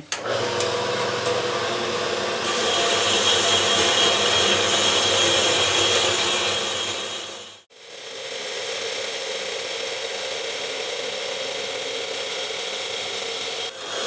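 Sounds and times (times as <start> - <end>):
power tool cutting steel pipe: 0.0 - 14.0.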